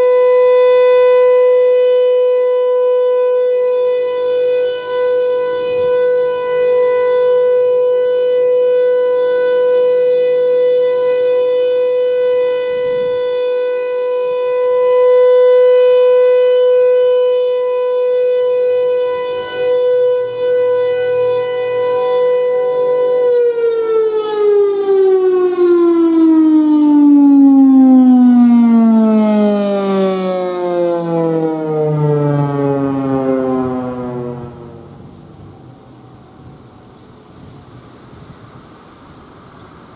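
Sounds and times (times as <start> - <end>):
siren steady tone winding down: 0.0 - 39.9.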